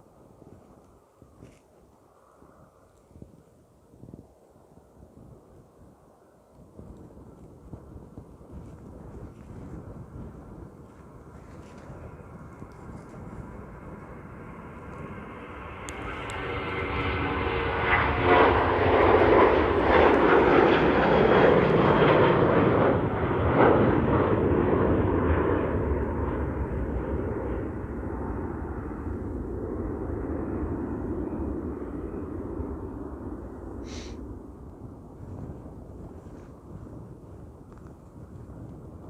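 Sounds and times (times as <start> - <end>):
jet airliner passing: 0.0 - 39.0
wind rumble on microphone: 0.0 - 39.0.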